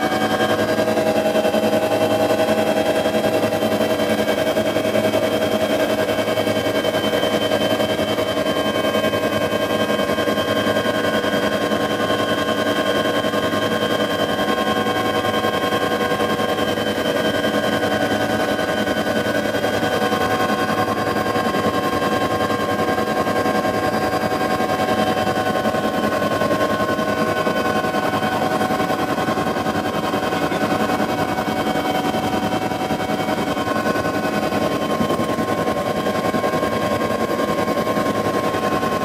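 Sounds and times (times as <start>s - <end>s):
helicopter rotor beat: 0.0s - 39.0s
turbine engine whine: 0.0s - 39.0s.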